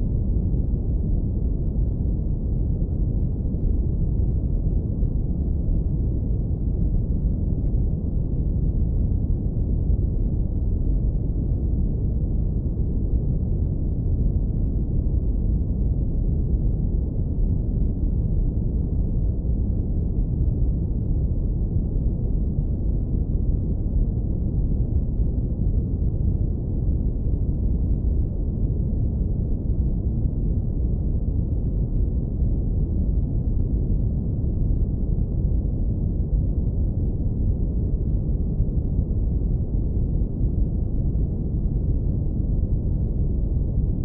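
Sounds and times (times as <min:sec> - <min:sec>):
deep brown noise rumble: 0:00.0 - 0:44.0.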